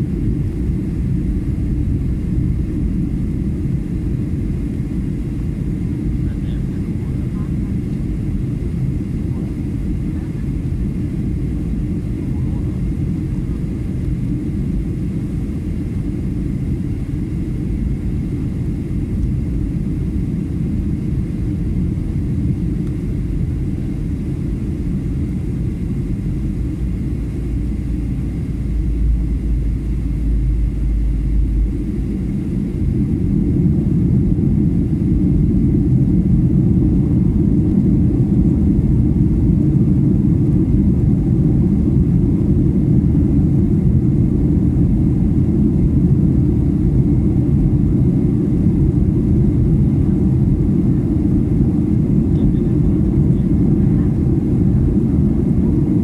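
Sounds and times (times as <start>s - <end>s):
airliner engine rumble in cabin: 0.0s - 56.0s.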